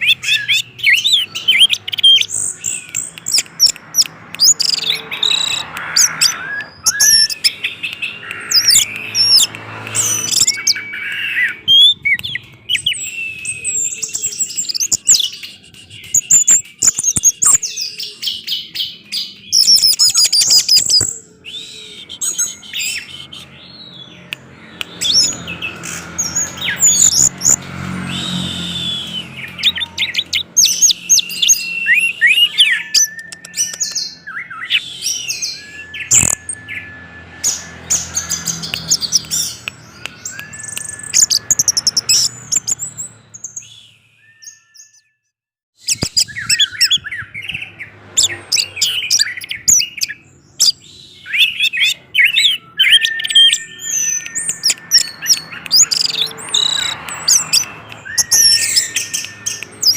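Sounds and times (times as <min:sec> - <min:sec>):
thrush singing: 0:00.0 - 0:43.8, 0:46.3 - 0:59.9.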